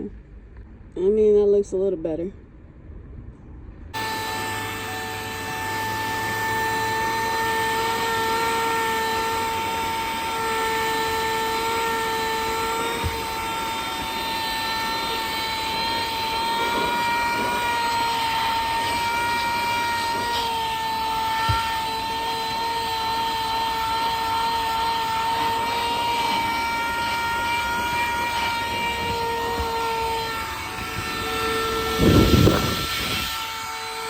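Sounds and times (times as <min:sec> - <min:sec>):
vacuum cleaner motor whine: 0:04.0 - 0:34.0.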